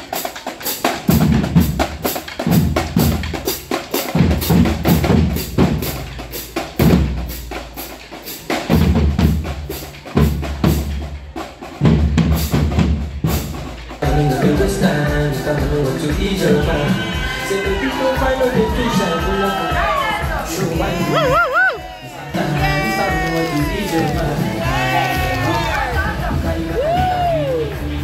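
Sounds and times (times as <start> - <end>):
snare drums beating: 0.0 - 28.0.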